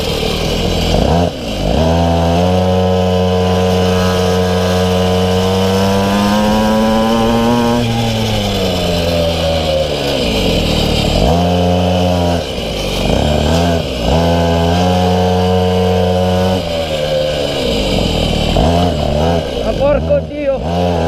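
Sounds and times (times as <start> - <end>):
small two-stroke engine revving: 0.0 - 21.0.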